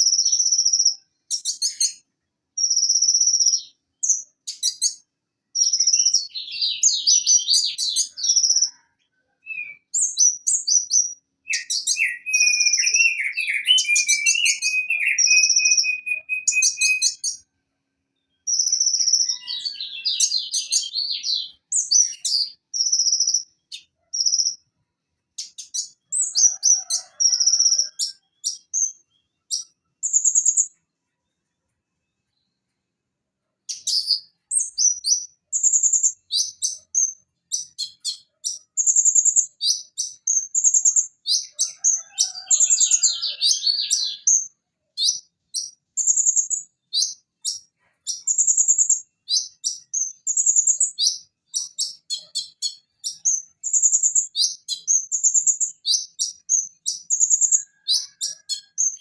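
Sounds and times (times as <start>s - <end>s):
bird chattering and trilling: 0.0s - 5.0s, 5.6s - 17.4s, 18.4s - 24.6s, 25.4s - 30.8s, 33.7s - 59.0s.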